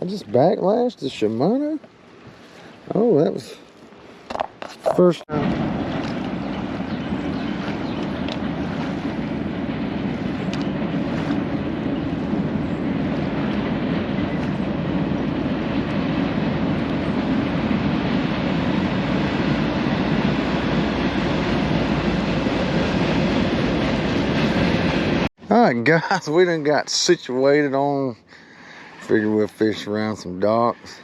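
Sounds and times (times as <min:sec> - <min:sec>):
wind and water rushing: 0:00.0 - 0:31.0
boat engine drone: 0:05.3 - 0:31.0.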